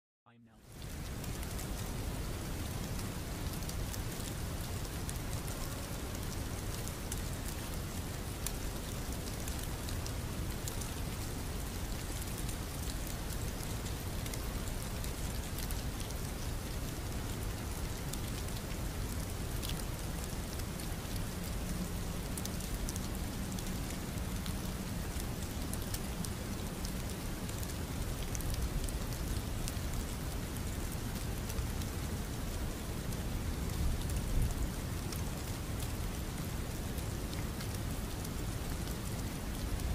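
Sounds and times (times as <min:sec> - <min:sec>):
raindrop ticks: 0:00.6 - 0:39.9
rainfall hiss: 0:00.6 - 0:39.9.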